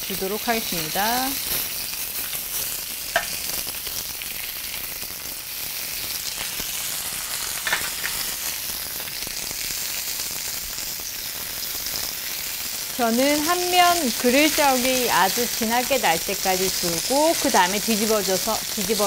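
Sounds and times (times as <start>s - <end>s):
steak sizzling in a grill pan: 0.0s - 19.0s.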